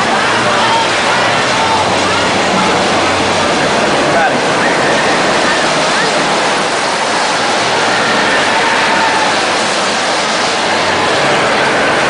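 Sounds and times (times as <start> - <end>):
roller coaster on track: 0.0 - 12.0.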